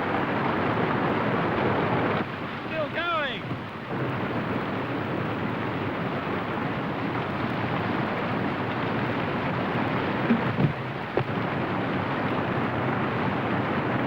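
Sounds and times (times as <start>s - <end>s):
whitewater rushing: 0.0s - 4.2s, 5.4s - 14.0s.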